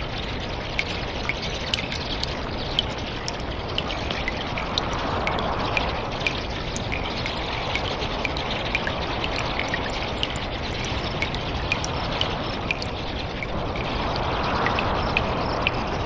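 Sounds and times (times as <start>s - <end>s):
running water rushing: 0.0s - 16.0s
water drops plinking: 0.0s - 16.0s.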